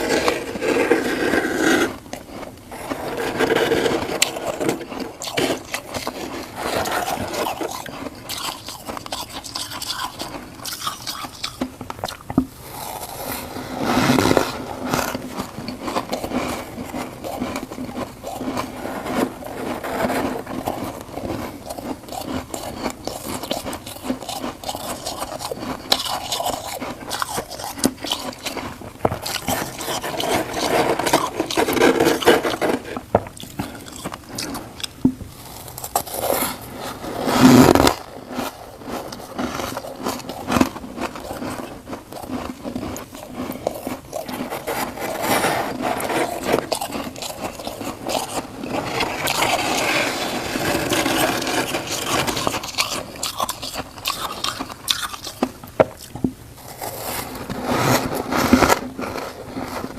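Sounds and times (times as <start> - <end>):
frost being scraped and crunched: 0.0 - 11.6, 12.6 - 34.8, 35.4 - 55.6, 56.6 - 59.9.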